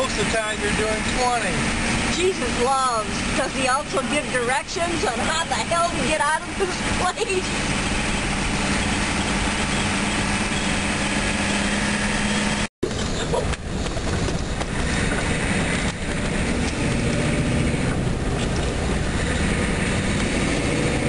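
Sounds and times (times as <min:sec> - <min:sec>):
car engine hum: 0:00.0 - 0:21.0
road noise: 0:00.0 - 0:21.0.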